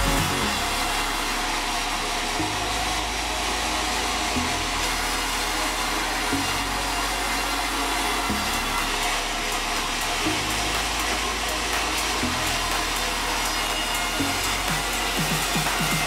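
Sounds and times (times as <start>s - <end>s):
background music low chords: 0.0s - 16.0s
sawmill saw running: 0.0s - 16.0s.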